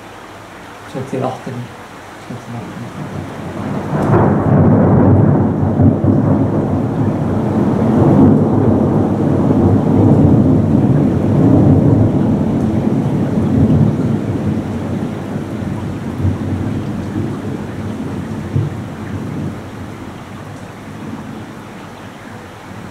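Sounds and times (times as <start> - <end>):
rain falling: 0.0 - 22.9
rolling thunder: 2.9 - 21.7.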